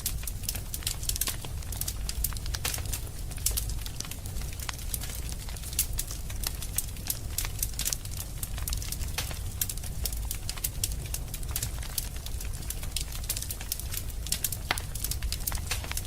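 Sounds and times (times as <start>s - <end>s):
fireplace fire crackling and popping: 0.0s - 16.0s
low rumble of fire: 0.0s - 16.0s.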